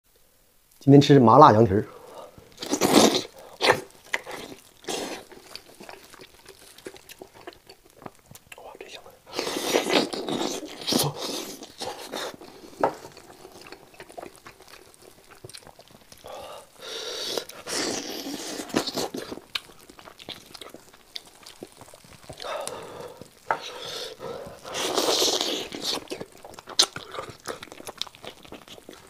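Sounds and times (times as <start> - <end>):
meat tearing and squelching: 2.2 - 8.6, 9.3 - 29.0
wet mouth sounds: 2.2 - 29.0
chewing meat off the bone: 2.3 - 8.6, 9.3 - 29.0.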